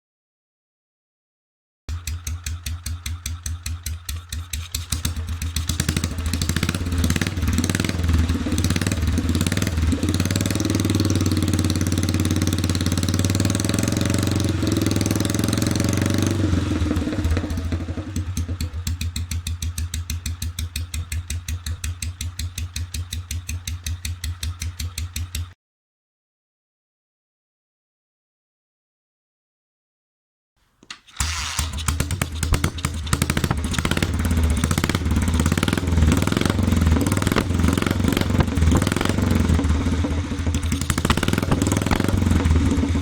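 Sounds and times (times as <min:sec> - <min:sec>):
motorcycle engine idling and revving: 0:01.9 - 0:25.6, 0:31.2 - 0:43.0.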